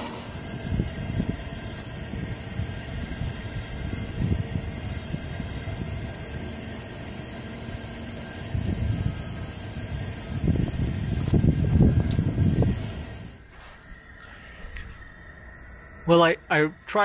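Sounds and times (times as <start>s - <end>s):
camp stove burner rumbling and hissing: 0.0s - 17.0s.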